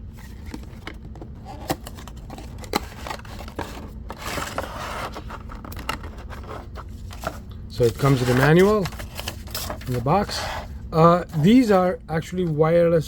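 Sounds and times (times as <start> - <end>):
scraping and rustling: 0.0 - 11.6.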